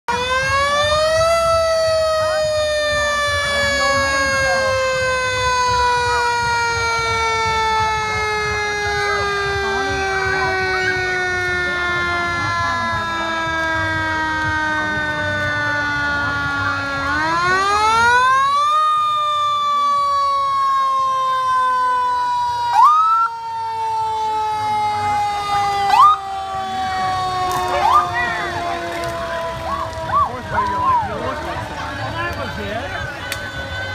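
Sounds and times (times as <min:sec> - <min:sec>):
fire truck siren: 0:00.0 - 0:33.9.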